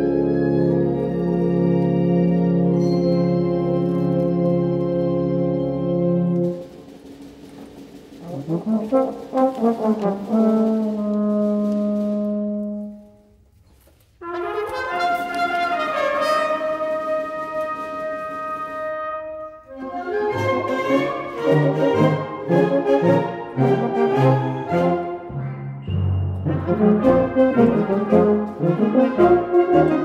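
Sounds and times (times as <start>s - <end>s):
concert band with brass: 0.0s - 13.4s, 14.2s - 30.0s.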